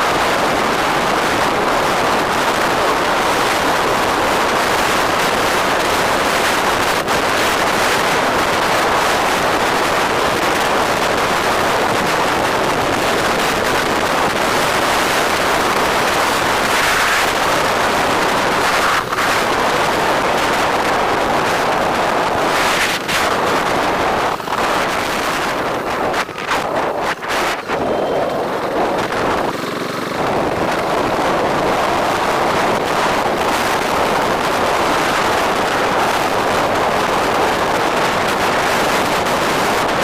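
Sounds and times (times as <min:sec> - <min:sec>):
road and traffic noise: 0:00.0 - 0:40.0
wind noise on microphone: 0:00.0 - 0:40.0.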